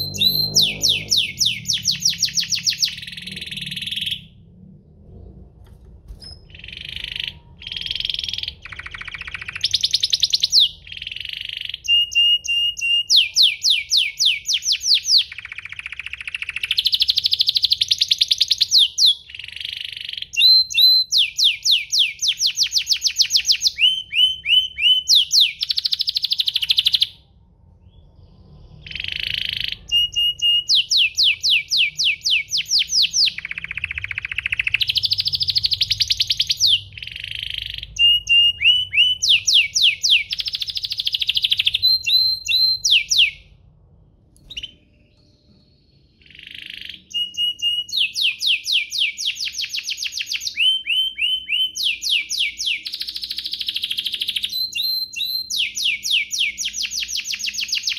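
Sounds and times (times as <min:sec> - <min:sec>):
canary singing trills: 0:00.0 - 0:04.6, 0:06.1 - 0:43.6, 0:44.4 - 0:57.9.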